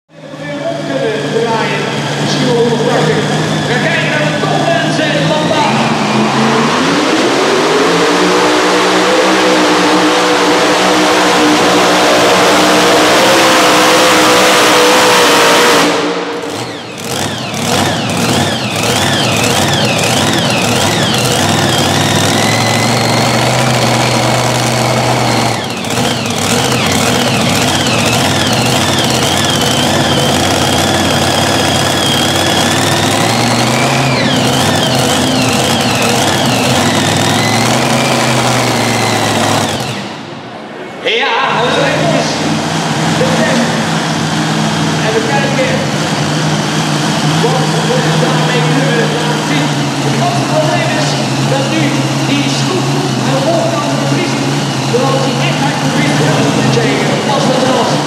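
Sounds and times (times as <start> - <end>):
supercharged engine running: 0.1 - 40.6, 41.6 - 58.0
engine idling with warbling whine: 0.1 - 58.0.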